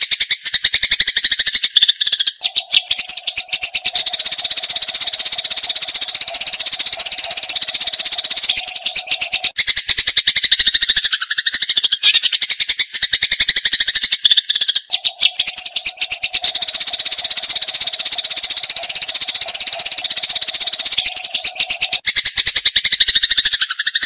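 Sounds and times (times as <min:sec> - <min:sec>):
sparrows chattering harshly: 0:00.0 - 0:24.0.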